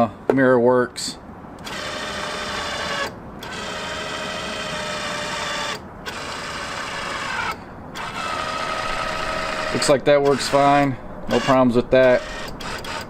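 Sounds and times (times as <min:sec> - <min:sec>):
mirror motor whirring: 0:01.6 - 0:13.0.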